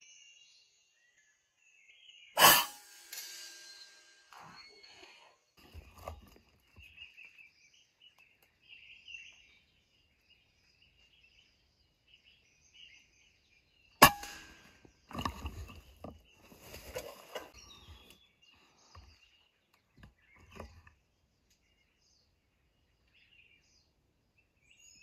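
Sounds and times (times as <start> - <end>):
small birds chirping: 4.3 - 25.0.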